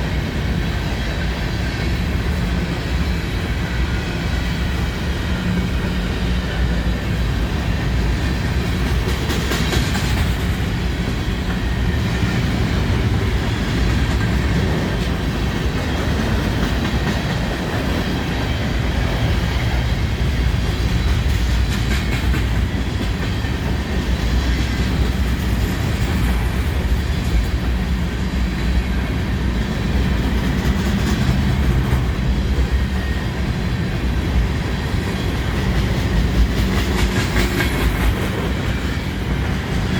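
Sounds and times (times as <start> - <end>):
steel wheels on rails: 0.0 - 39.9.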